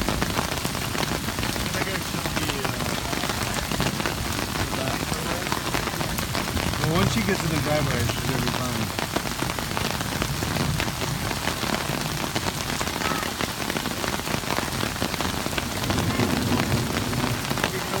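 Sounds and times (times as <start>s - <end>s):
heavy rain on flooded street: 0.0s - 18.0s.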